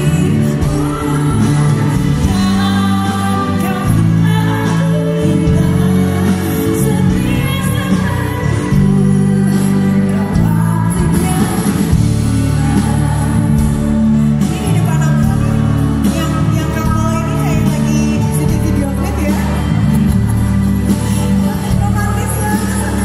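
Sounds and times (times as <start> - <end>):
woman singing pop song: 0.0 - 23.0.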